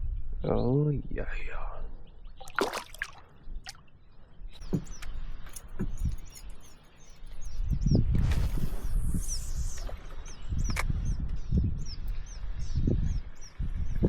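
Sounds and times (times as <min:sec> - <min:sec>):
small bird chirping: 0:02.0 - 0:14.0.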